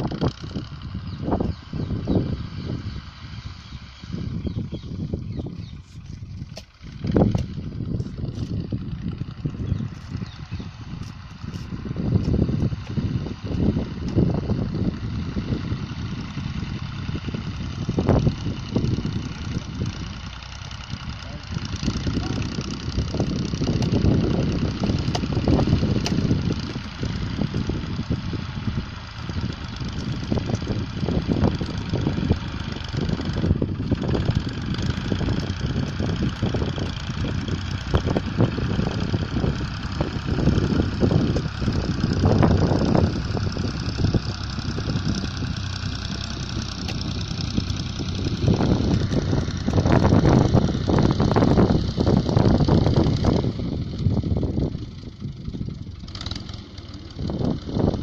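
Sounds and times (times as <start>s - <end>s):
tractor diesel engine chugging: 0.0s - 58.0s.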